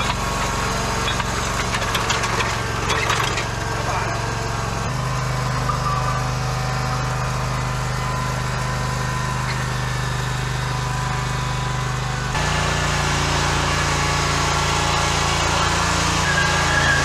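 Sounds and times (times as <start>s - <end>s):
riding mower engine running: 0.0s - 17.0s.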